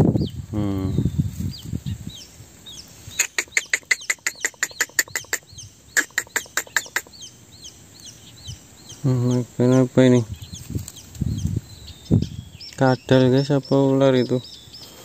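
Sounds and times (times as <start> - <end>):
nestlings harsh begging calls: 0.2 - 15.0.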